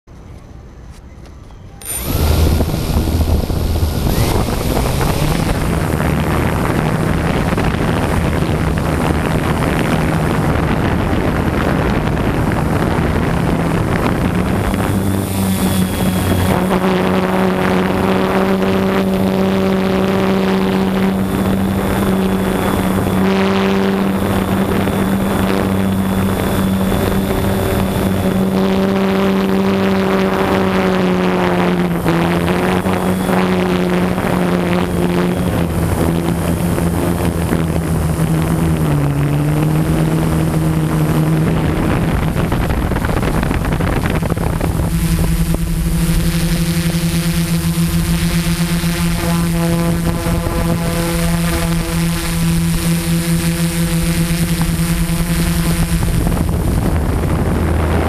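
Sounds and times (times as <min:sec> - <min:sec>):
quadcopter motors and propellers: 0:00.1 - 0:58.0.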